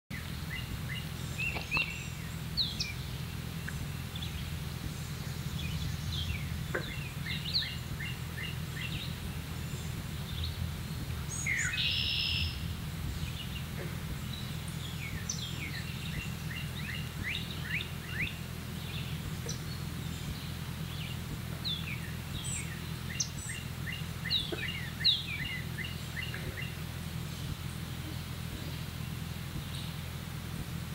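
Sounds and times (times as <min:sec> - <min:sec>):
buzzy bird trill: 0:00.1 - 0:30.9
songbirds chirping and singing: 0:00.1 - 0:30.9
steady low rumble: 0:00.1 - 0:30.9.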